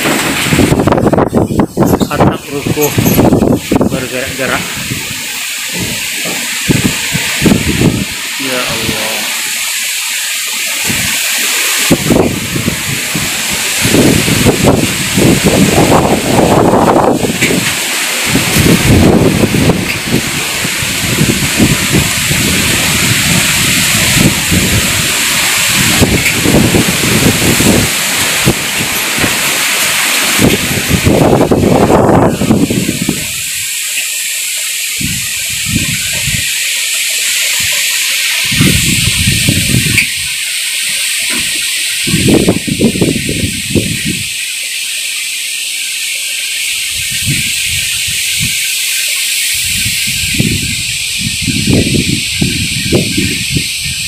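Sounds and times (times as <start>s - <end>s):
wind buffeting microphone: 0.0s - 9.1s, 10.8s - 33.8s, 34.8s - 44.4s, 46.8s - 48.8s, 49.5s - 54.0s
gusty wind rushing: 0.0s - 33.9s, 34.8s - 44.4s, 46.7s - 54.0s.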